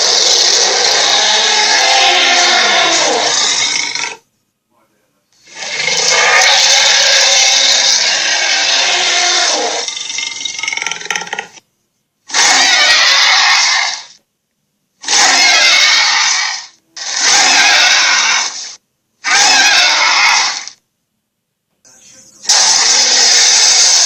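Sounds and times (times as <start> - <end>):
harsh monster roars: 0.0 - 4.2, 5.4 - 11.5, 12.3 - 14.2, 15.0 - 20.8, 22.5 - 24.0.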